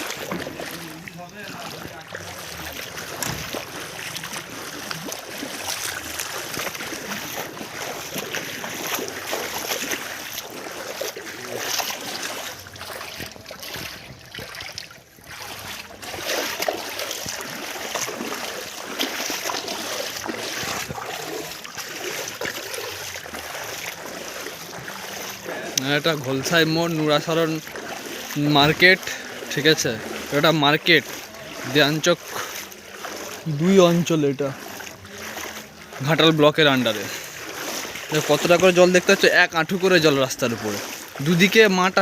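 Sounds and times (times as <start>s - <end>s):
floodwater rushing and splashing: 0.0s - 42.0s.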